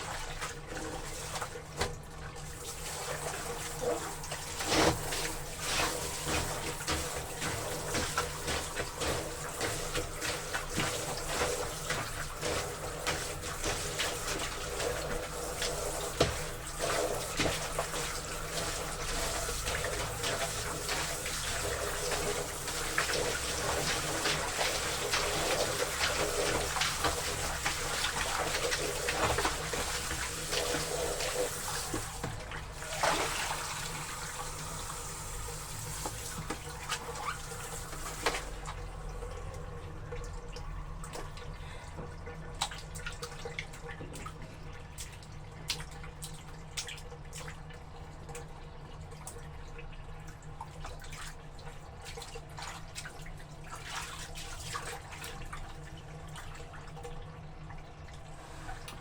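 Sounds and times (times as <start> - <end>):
tap water running: 0.0 - 59.0
water dripping and splashing: 0.0 - 59.0.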